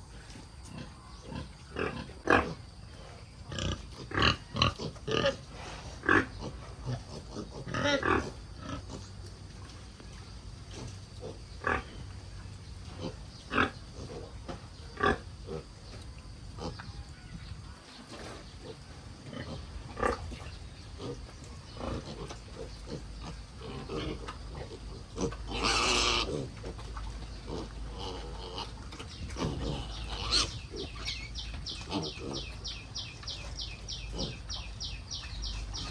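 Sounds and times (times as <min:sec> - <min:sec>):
pigs grunting: 0:00.0 - 0:35.9.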